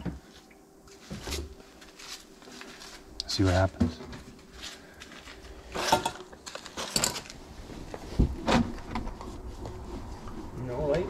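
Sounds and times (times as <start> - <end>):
rustling and clicking handling noises: 0.4 - 11.0.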